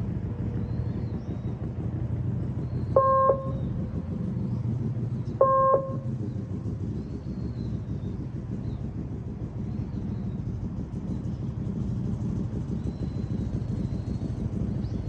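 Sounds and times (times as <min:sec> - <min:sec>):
small motorcycle rumbling: 0:00.0 - 0:15.0.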